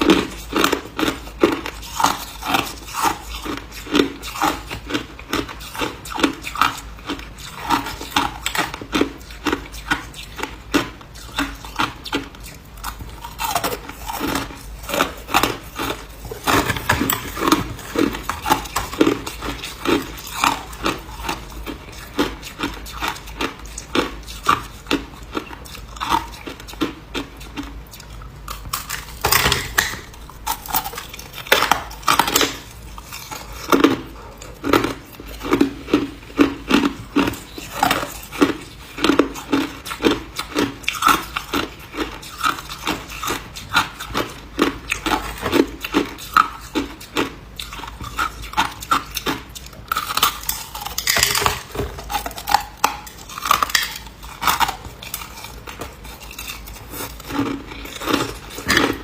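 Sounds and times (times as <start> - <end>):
ice cubes crunching between teeth: 0.0 - 59.0.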